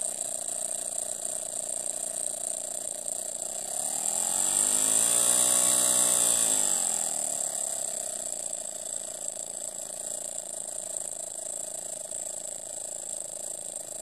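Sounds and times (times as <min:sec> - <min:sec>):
small steam engine buzzing: 0:00.0 - 0:14.0.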